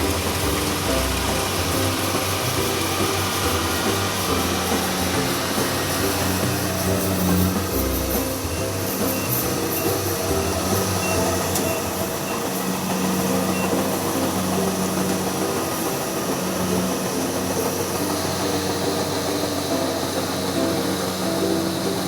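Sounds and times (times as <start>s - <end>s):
harvesting machine engine drone: 0.0s - 22.0s.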